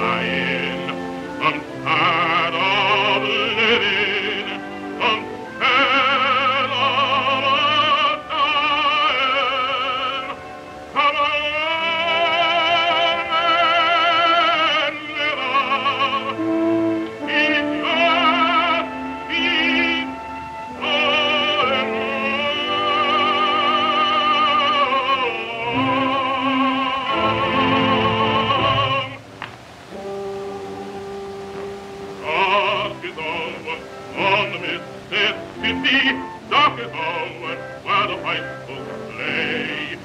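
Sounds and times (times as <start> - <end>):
man singing baritone: 0.0 - 29.2, 29.9 - 40.0
sustained accompaniment: 0.0 - 40.0.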